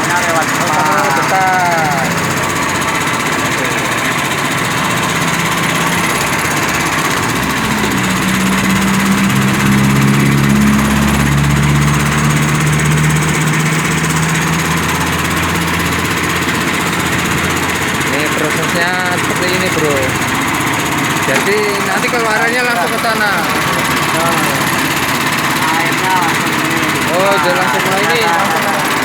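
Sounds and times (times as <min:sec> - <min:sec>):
deep machine hum: 0:00.0 - 0:29.0
sugarcane crushing machine running: 0:00.0 - 0:29.0.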